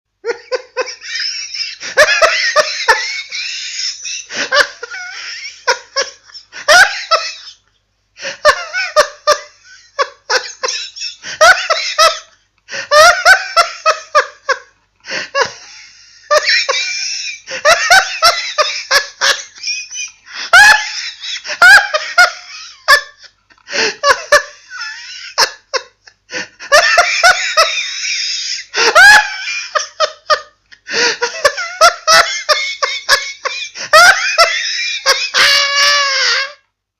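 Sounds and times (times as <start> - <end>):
person laughing hard: 0.2 - 36.7.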